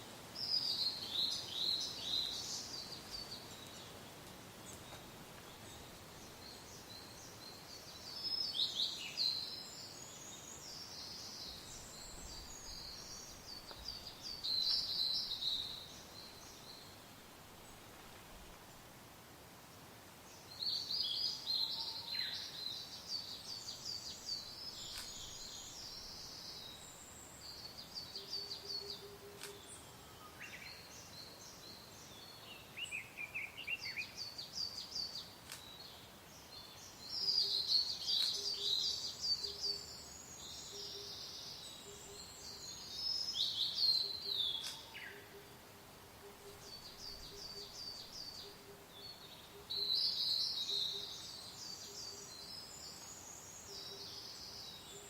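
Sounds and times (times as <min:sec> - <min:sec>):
songbirds singing: 0:00.0 - 0:18.6, 0:19.6 - 0:55.0
faint wind hiss: 0:00.0 - 0:55.0.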